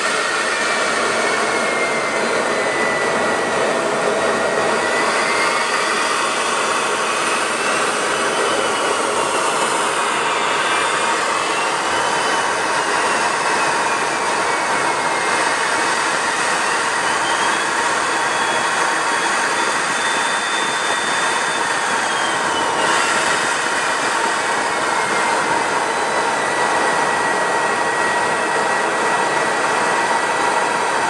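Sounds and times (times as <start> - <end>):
jet engine and rushing air: 0.0 - 31.0.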